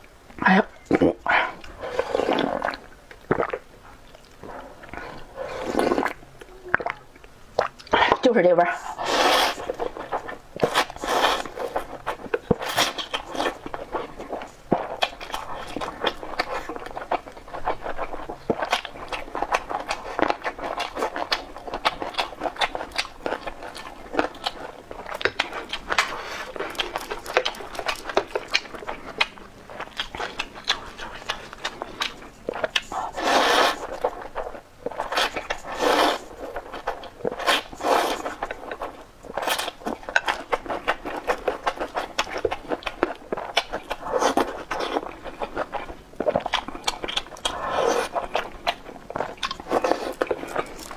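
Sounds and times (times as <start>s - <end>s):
wet chewing and mouth clicks: 0.0s - 50.9s
noodle slurping: 0.9s - 3.6s, 4.2s - 7.0s, 8.7s - 50.9s.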